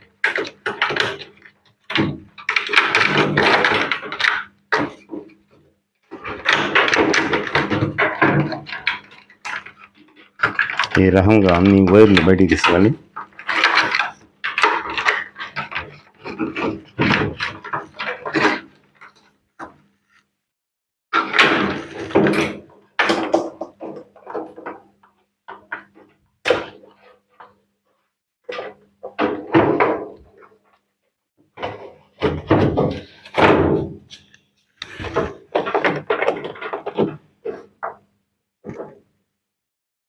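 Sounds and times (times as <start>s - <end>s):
plastic and metal parts rattling: 0.0s - 20.3s, 21.2s - 39.1s.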